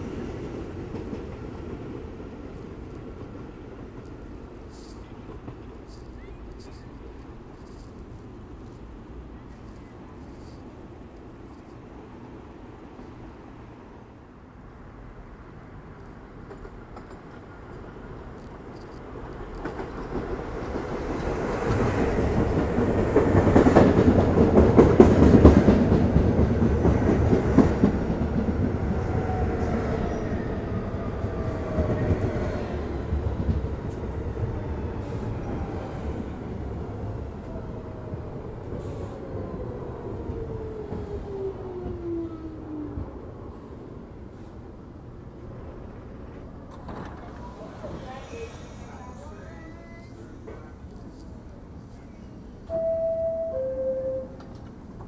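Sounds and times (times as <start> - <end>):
subway train rumble: 0.0 - 55.0.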